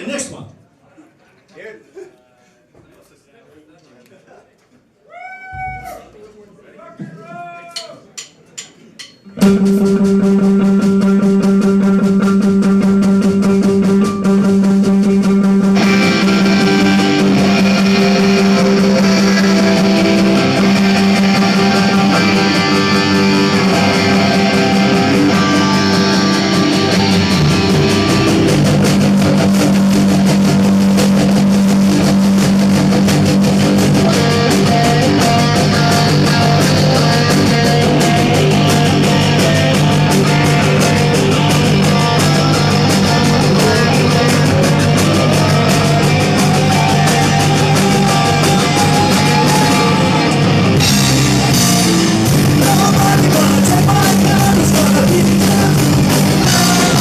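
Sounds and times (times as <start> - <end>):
rock music with electric guitar: 9.4 - 57.0.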